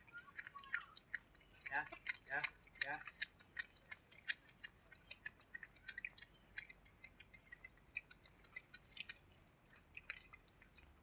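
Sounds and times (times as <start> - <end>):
cat chewing and licking: 0.0 - 11.0.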